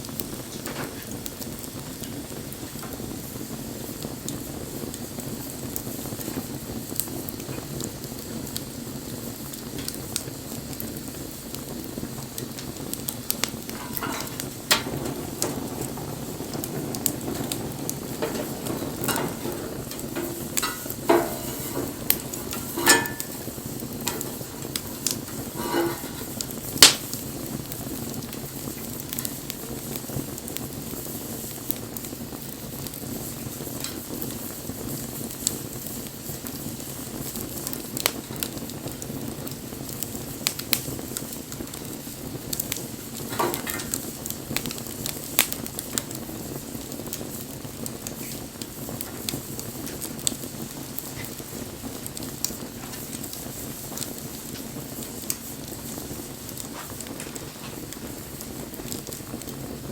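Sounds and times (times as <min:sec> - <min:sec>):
campfire crackling and hissing: 0:00.0 - 0:59.9.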